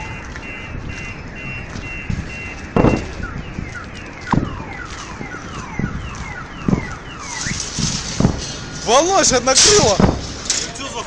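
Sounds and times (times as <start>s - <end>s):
car alarm beeping and whooping: 0.0s - 10.2s
loud thumps: 1.6s - 10.7s.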